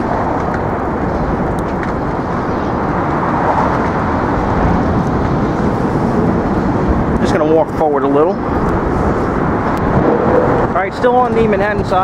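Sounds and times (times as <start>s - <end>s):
steady vehicle traffic: 0.0s - 12.0s.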